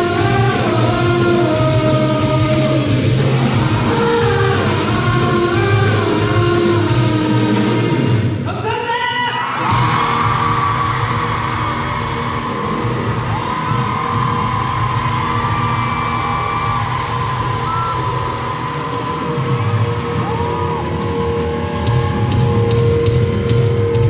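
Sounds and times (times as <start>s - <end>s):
rock band playing live: 0.0s - 8.6s, 9.5s - 24.0s.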